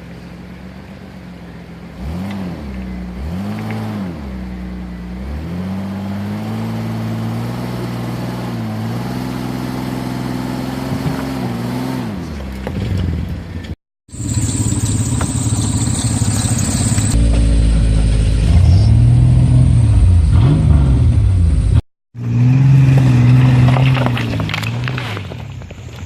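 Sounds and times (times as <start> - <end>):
vehicle engine revving: 1.2 - 25.6.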